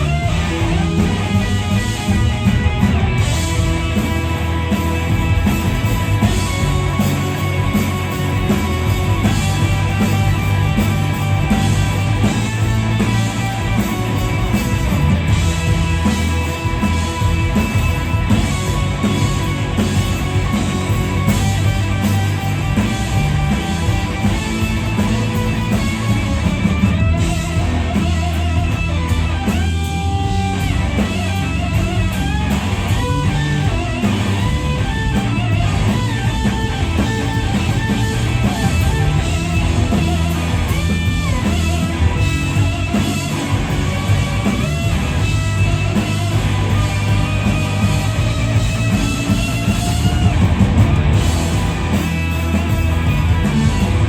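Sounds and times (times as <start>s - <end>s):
blues rock band playing: 0.0s - 54.0s
electric guitar lead: 0.0s - 54.0s.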